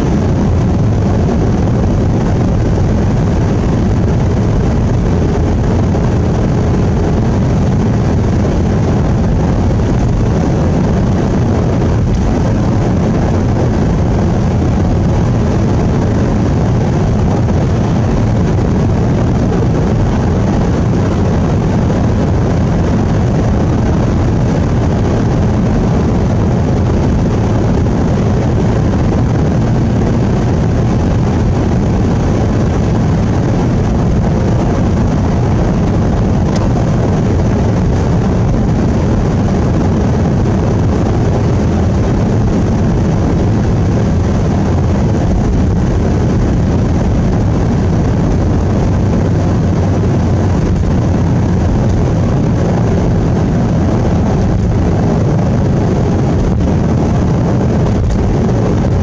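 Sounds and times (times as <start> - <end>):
vehicle engine and tyre rumble: 0.0 - 59.0.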